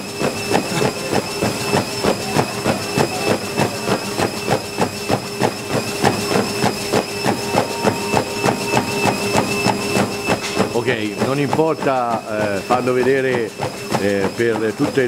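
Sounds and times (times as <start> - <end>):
footfalls on treadmill belt: 0.0 - 15.0
treadmill motor whine: 0.0 - 15.0.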